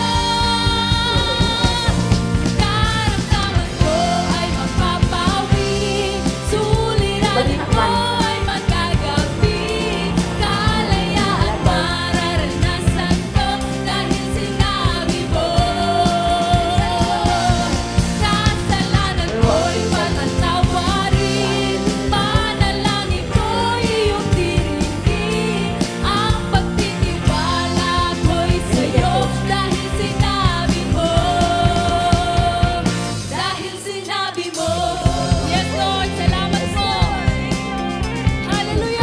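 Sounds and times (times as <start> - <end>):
song with singing over a beat: 0.0 - 39.0.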